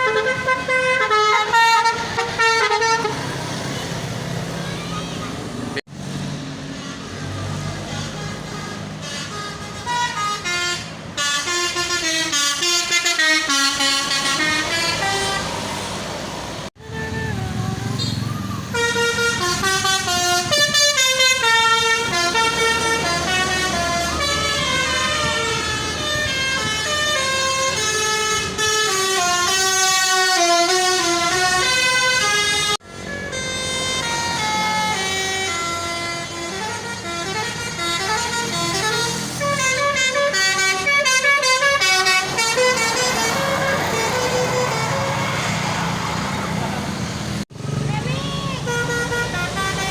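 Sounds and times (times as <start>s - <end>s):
multi-tone bus horn melodies: 0.0s - 5.8s, 6.7s - 16.1s, 16.7s - 46.8s, 48.0s - 49.9s
bus engine running: 0.0s - 49.9s.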